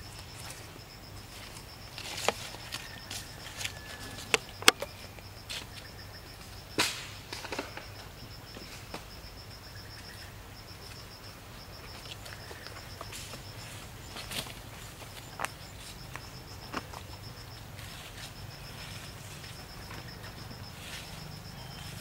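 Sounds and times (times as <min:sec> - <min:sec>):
insect chirping trill: 0:00.0 - 0:22.0.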